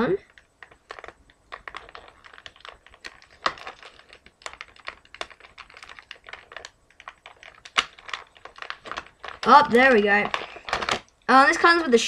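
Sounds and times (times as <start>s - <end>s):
hands unpacking plastic packaging: 0.2s - 12.0s.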